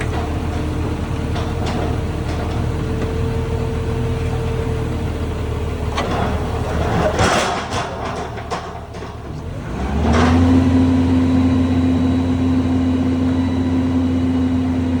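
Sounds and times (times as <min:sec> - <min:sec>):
heavy machine engine drone: 0:00.0 - 0:15.0.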